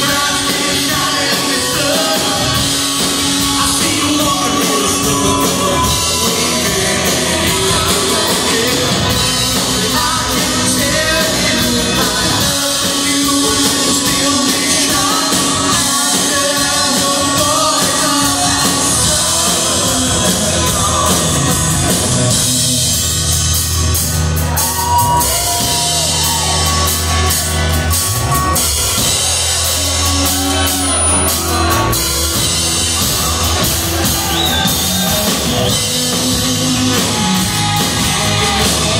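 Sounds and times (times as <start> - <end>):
person singing: 0.0 - 23.4, 29.0 - 38.9
bass guitar: 0.0 - 38.9
drums: 0.0 - 38.9
electric guitar: 0.0 - 38.9.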